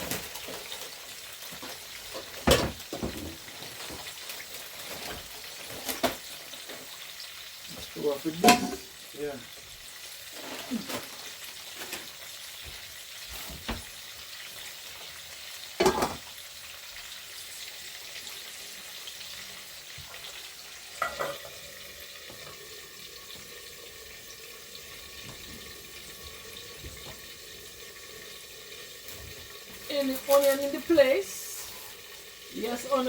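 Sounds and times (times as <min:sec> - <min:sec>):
food sizzling in a covered pot: 0:00.0 - 0:33.0.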